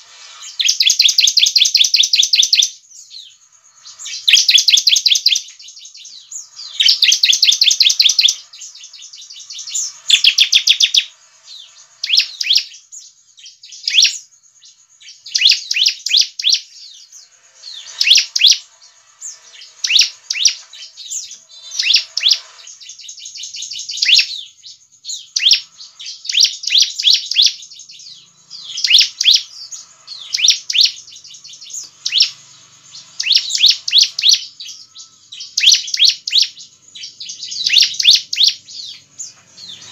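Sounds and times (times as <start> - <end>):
bird singing high chirps: 0.0 - 39.9.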